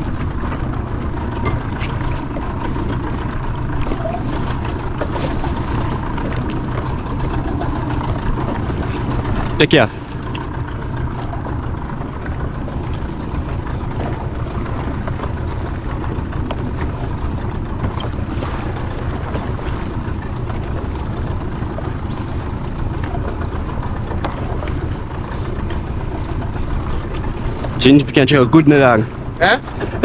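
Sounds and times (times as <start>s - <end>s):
wind rumble on microphone: 0.0s - 27.9s
water washing against boat: 0.0s - 30.0s.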